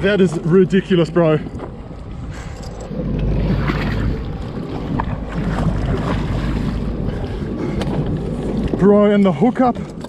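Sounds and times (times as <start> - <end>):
low rumble: 0.0 - 10.0
water around a boat: 0.0 - 10.0
wind buffeting microphone: 0.0 - 10.0.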